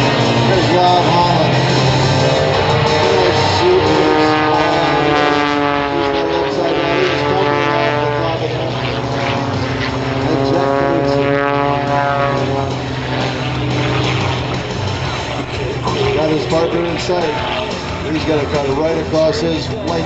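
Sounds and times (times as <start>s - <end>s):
propeller planes droning overhead: 0.0s - 20.0s.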